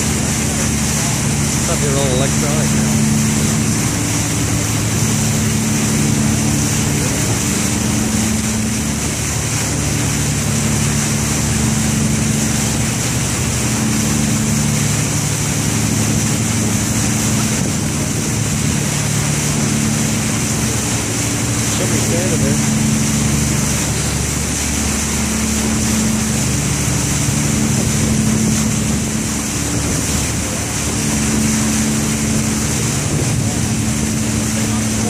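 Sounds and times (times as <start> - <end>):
boat engine humming: 0.0 - 35.0
rush of wind and water: 0.0 - 35.0.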